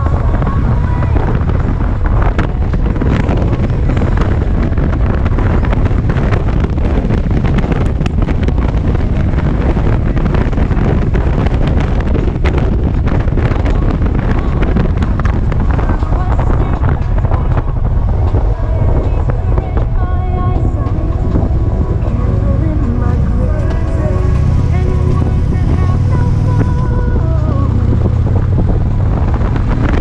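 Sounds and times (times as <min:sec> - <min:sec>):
motorcycle engine cruising: 0:00.0 - 0:30.0
wind buffeting microphone: 0:00.0 - 0:30.0.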